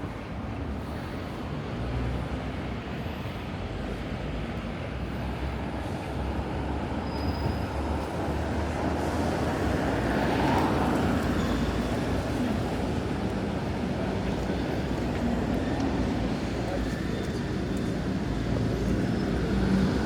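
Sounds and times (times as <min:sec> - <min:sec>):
rumble of passing vehicles: 0:00.0 - 0:20.0.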